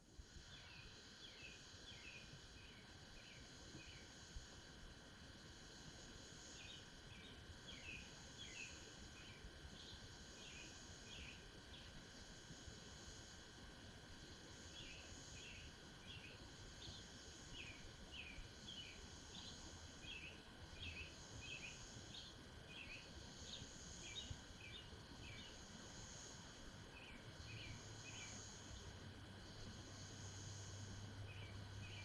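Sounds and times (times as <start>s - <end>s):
low outdoor background hum: 0.0s - 32.0s
high insect trill: 0.3s - 32.0s.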